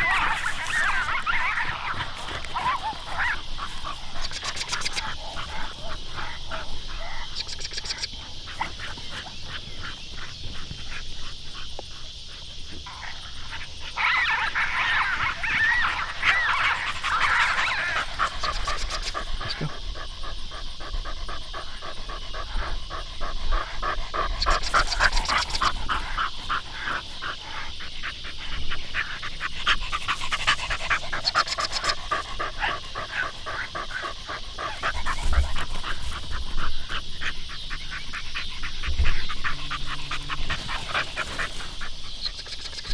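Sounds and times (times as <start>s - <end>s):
dog panting: 0.0s - 13.9s, 15.4s - 42.9s.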